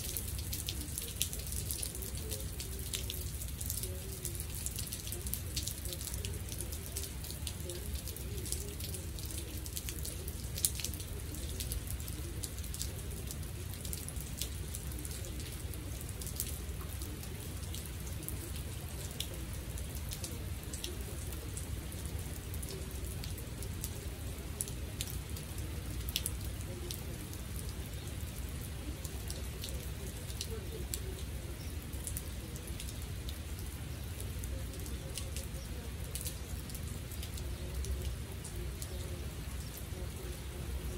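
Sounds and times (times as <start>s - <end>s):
rain falling on standing water: 0.0s - 40.9s.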